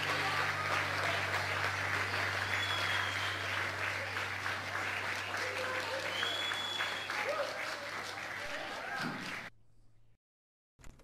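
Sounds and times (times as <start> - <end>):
children clapping: 0.0 - 9.5.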